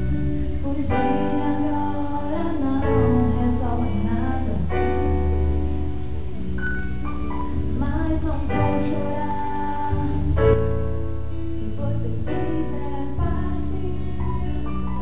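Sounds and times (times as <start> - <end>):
piano accompaniment: 0.0 - 15.0
steady bass: 0.0 - 15.0
woman singing: 0.6 - 5.4, 7.6 - 15.0.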